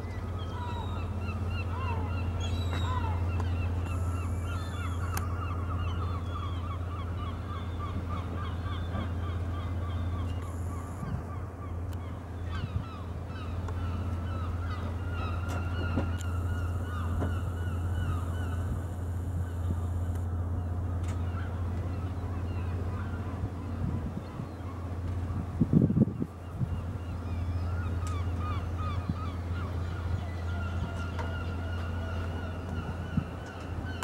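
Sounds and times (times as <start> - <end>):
gulls calling: 0.0 - 34.0
steady low hum: 0.0 - 34.0.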